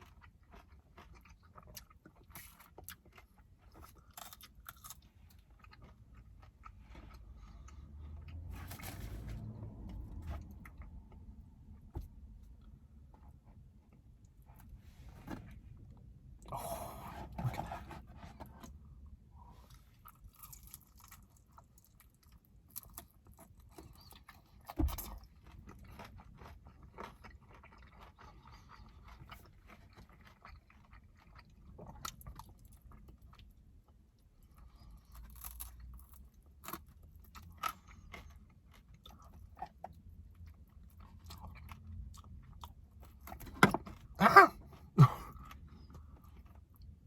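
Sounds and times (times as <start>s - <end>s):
chewing and biting: 0.0s - 14.8s, 19.7s - 47.0s.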